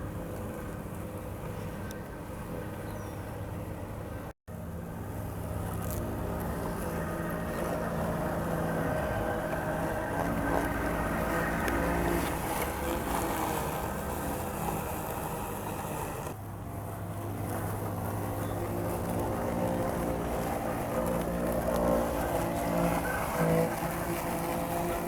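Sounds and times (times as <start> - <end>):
robot lawn mower humming: 4.6 - 25.0.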